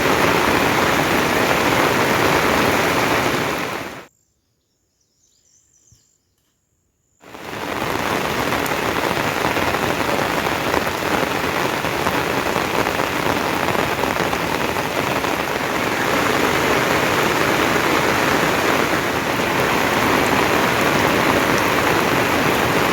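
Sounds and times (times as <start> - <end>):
steady rain falling: 0.0 - 4.1, 7.2 - 22.9.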